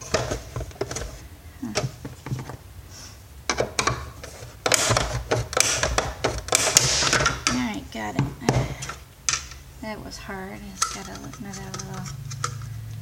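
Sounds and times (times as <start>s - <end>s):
plastic parts clattering and scraping: 0.0s - 2.6s, 3.5s - 9.6s, 10.6s - 13.0s
plastic parts clicking and knocking: 0.0s - 2.6s, 3.5s - 9.6s, 10.7s - 13.0s.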